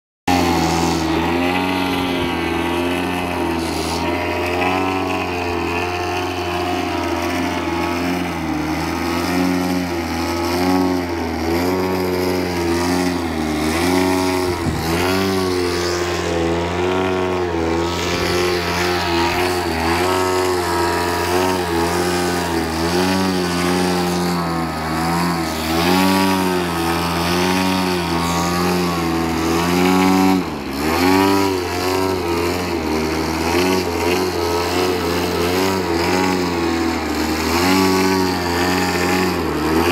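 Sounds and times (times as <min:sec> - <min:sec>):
model plane engine revving: 0:00.3 - 0:39.9.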